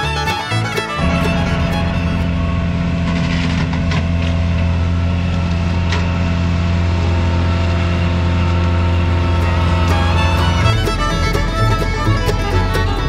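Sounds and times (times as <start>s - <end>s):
deep engine hum: 0.0s - 13.0s.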